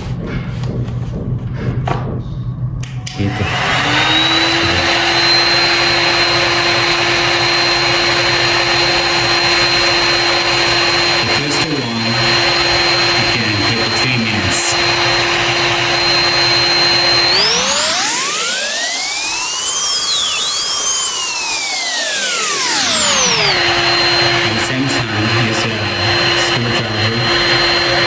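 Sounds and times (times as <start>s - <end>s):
heat gun fan whining: 2.8s - 28.0s.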